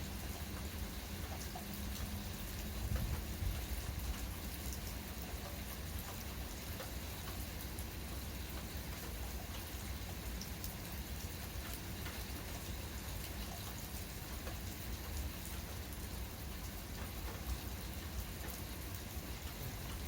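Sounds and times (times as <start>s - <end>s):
gentle rain pattering: 0.0s - 20.0s.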